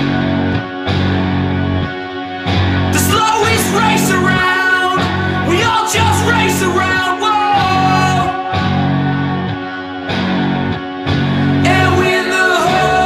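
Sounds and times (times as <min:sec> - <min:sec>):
song with guitar: 0:00.0 - 0:13.0.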